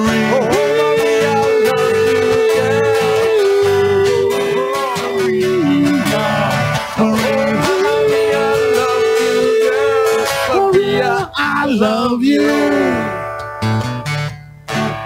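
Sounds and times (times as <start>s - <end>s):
acoustic and electric guitar ballad: 0.0s - 15.0s.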